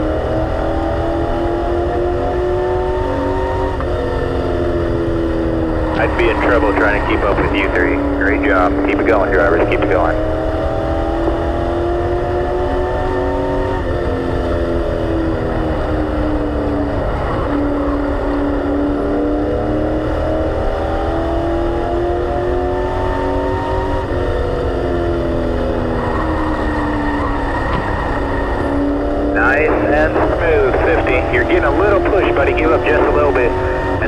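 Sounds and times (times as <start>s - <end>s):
race car engine revving: 0.0s - 34.0s
road and drivetrain rumble: 0.0s - 34.0s.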